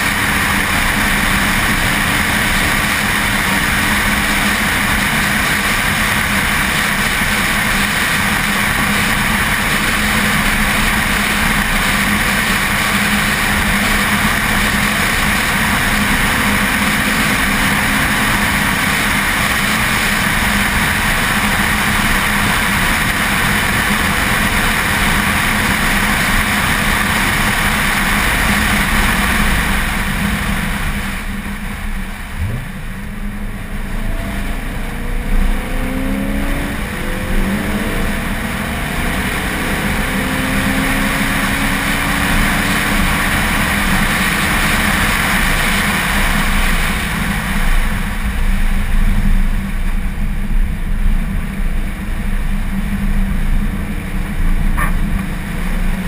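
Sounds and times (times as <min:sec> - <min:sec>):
car engine at speed: 0:00.0 - 0:56.0
road noise: 0:00.0 - 0:56.0.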